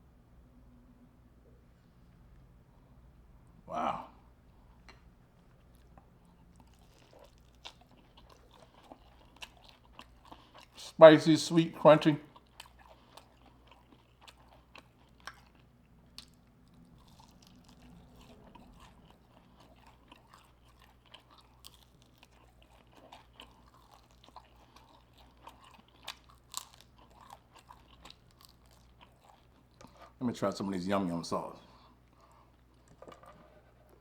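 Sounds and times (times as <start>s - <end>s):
chewing crunchy fried food: 4.5s - 34.0s.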